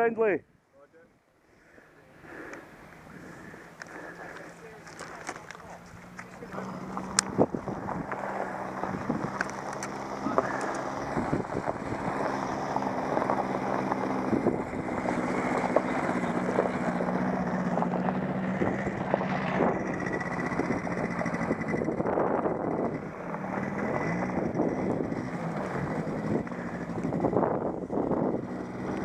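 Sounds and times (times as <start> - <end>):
vehicle engine running: 1.7 - 29.0.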